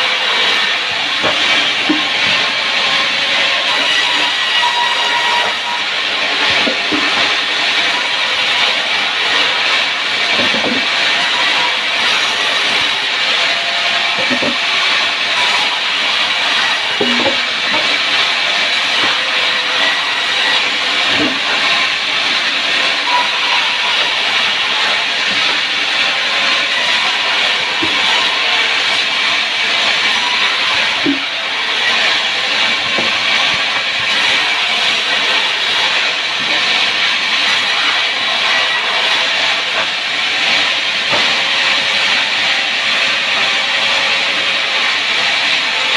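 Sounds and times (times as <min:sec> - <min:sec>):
wood saw running: 0:00.0 - 0:45.9.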